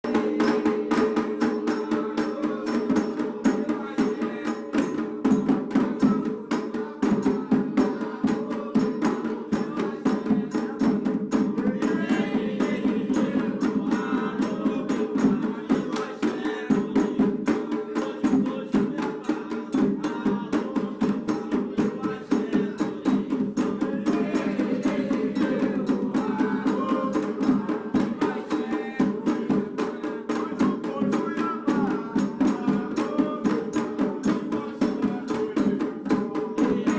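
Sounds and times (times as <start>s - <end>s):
hand drums playing a rhythm: 0.0s - 36.9s.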